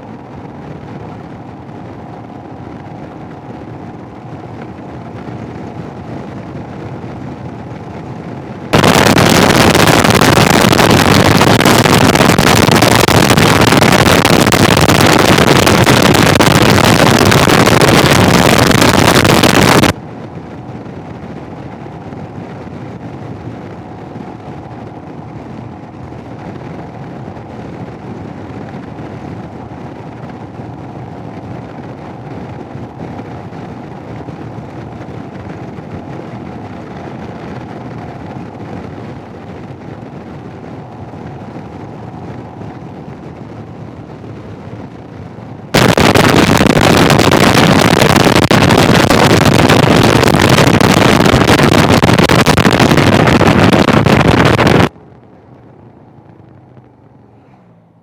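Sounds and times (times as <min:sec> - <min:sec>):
motorcycle engine: 0:00.0 - 0:58.0
wind noise and static: 0:00.0 - 0:58.0.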